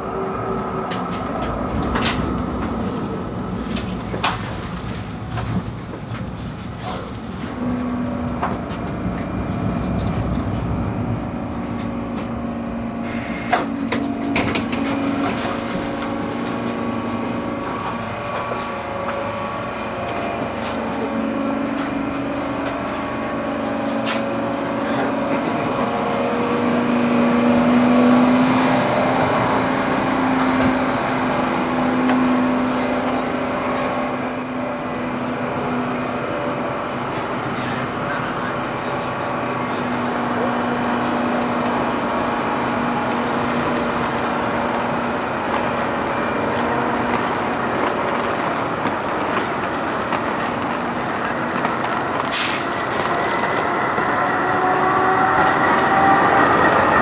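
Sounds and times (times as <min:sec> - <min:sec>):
tram electrical hum: 0:00.0 - 0:57.0.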